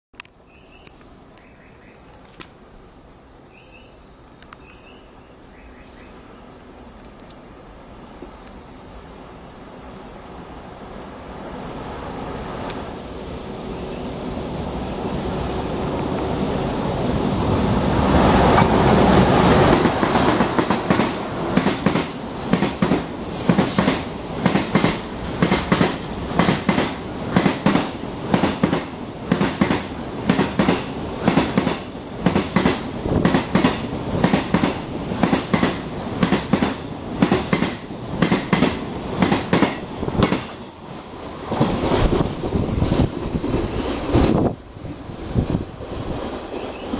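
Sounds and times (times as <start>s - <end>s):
electric locomotive passing: 4.6s - 46.9s.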